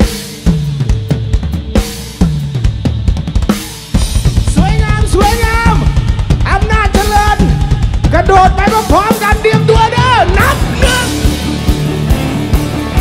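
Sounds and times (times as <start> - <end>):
fast kick-drum beat: 0.0 - 13.0
full band playing: 0.0 - 13.0.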